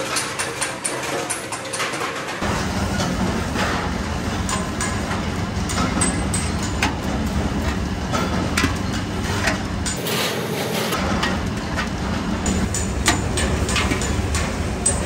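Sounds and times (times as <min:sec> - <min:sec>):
machine hum: 0:02.4 - 0:15.0.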